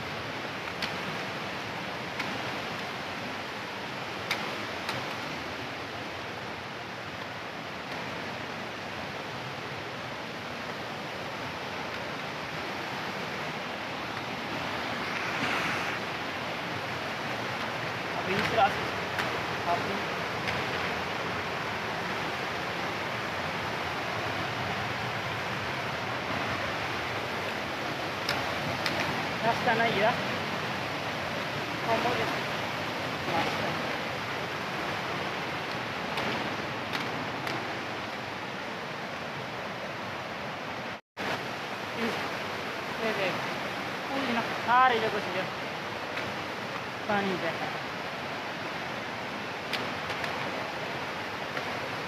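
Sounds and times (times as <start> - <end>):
mountain stream rushing: 0.0 - 52.0.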